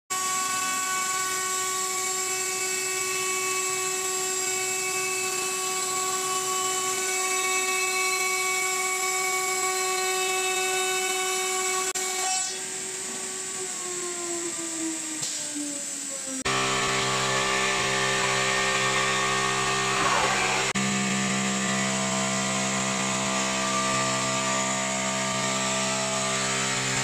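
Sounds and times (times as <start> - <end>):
stone cutting machine spindle whine: 0.1 - 27.0.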